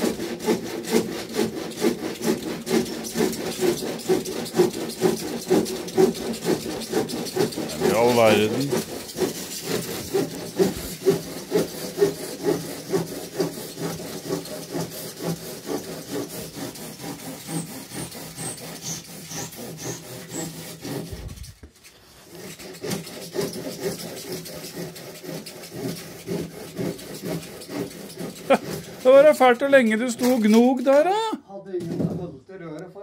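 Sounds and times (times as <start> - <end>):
hand saw cutting pipe: 0.0 - 31.3.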